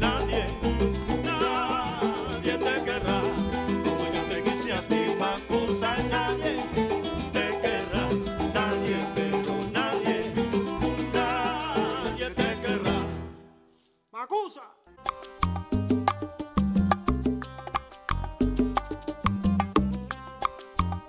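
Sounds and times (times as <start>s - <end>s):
salsa band playing: 0.0s - 13.4s, 15.0s - 21.0s.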